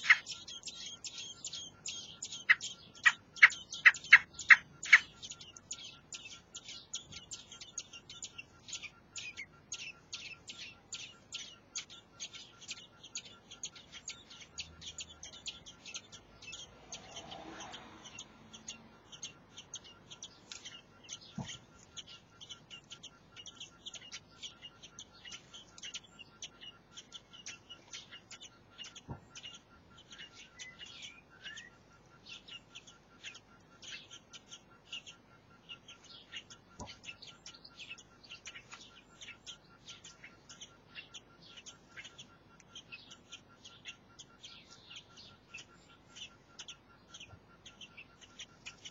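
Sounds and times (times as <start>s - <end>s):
nestlings cheeping: 0.0s - 48.9s.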